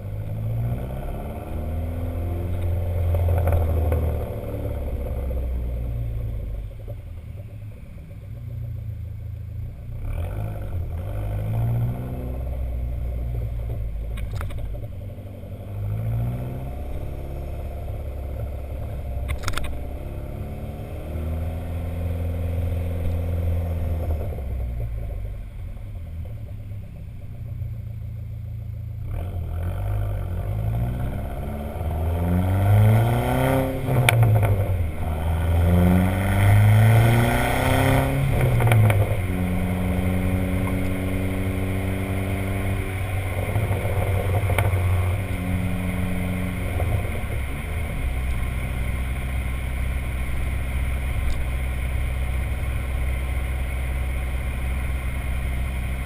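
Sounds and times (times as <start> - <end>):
car engine revving: 0.0 - 7.7, 8.4 - 56.0
exhaust crackles and pops: 1.3 - 56.0.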